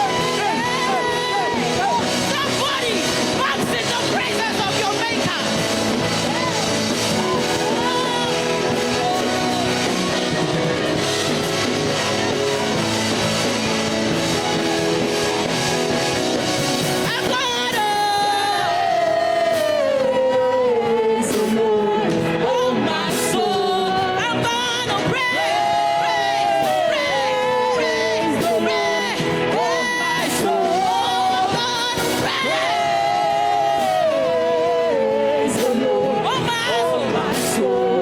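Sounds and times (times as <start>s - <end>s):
gospel band playing: 0.0s - 38.0s.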